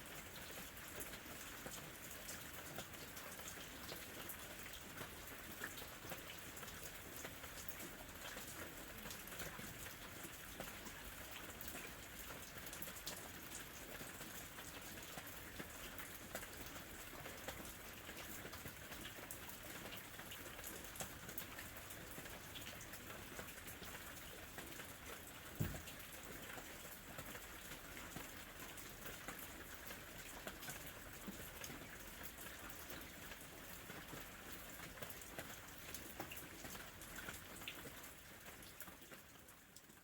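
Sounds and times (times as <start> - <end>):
gentle rain falling: 0.0 - 40.0.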